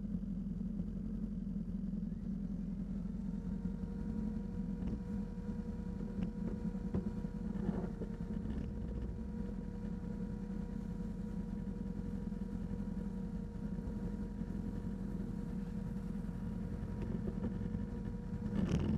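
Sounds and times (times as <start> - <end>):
atv engine running low: 0.0 - 18.9.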